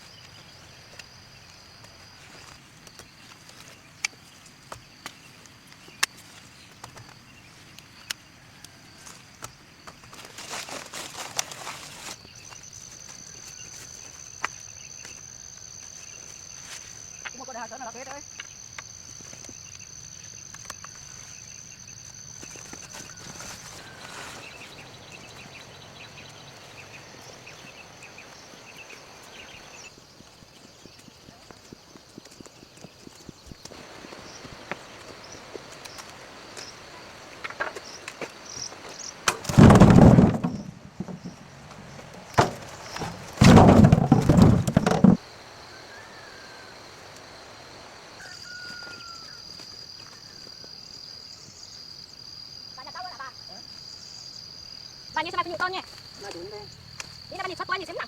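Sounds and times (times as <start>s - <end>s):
insect drone: 0.0s - 58.0s.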